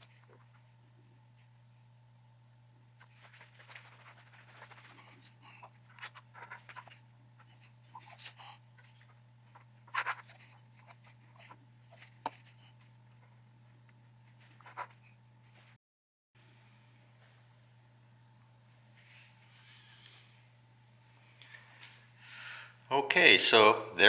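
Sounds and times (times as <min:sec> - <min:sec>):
steady low hum: 0:00.0 - 0:15.8, 0:16.4 - 0:24.0.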